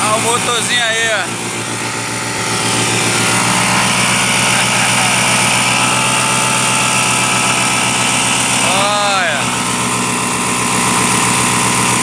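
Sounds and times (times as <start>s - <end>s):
boat motor running steadily: 0.0s - 12.0s.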